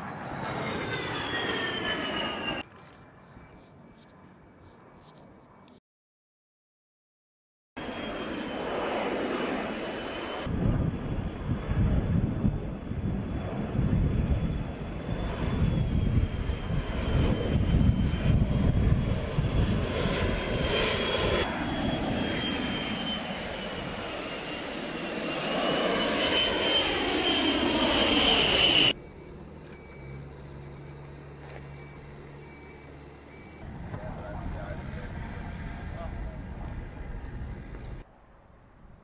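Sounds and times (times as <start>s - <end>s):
jet engines whine and rumble: 0.0s - 5.8s, 7.8s - 39.0s.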